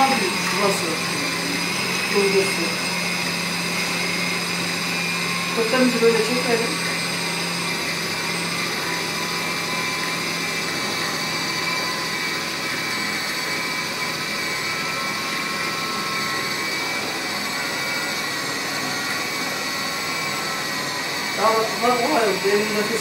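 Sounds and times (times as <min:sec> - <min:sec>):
food processor motor whining: 0:00.0 - 0:23.0.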